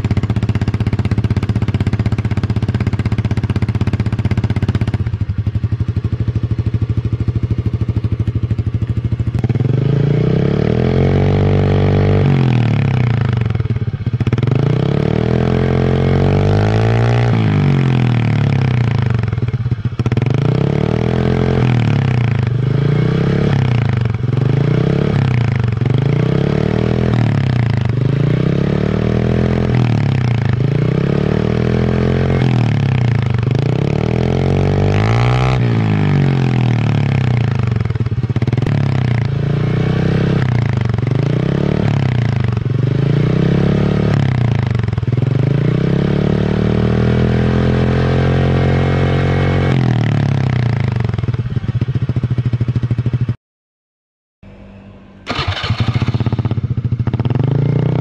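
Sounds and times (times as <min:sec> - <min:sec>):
scooter engine idling and revving: 0:00.0 - 0:53.4, 0:54.6 - 0:58.0.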